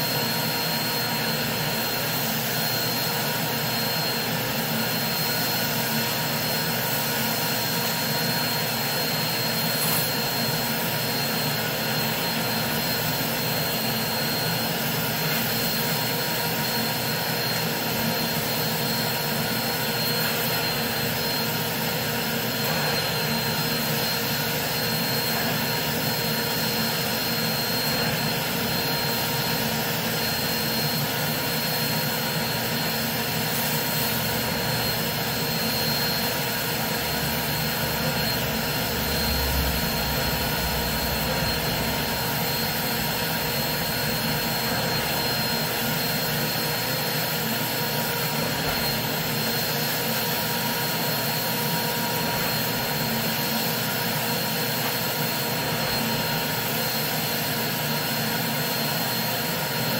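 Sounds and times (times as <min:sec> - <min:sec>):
carpet cleaner whining: 0:00.0 - 0:59.9.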